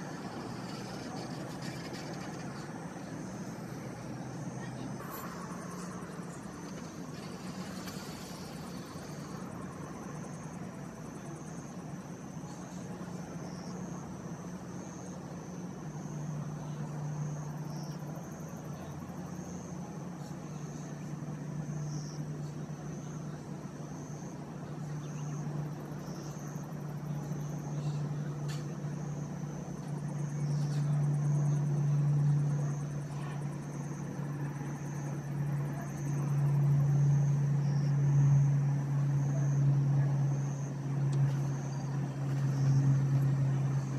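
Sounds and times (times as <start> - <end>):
insects trilling: 0.0 - 43.9
low mechanical hum: 0.0 - 43.9.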